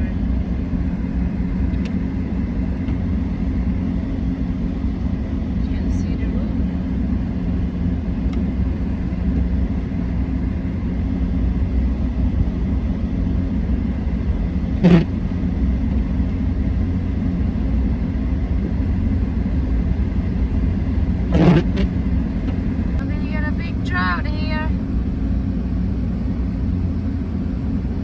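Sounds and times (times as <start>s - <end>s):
car engine and tyres rumbling: 0.0s - 28.0s
steady hum: 0.0s - 28.0s.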